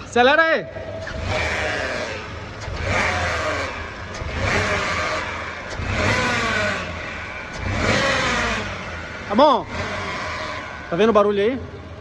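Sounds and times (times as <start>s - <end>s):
car engine revving with whine: 0.7s - 12.0s.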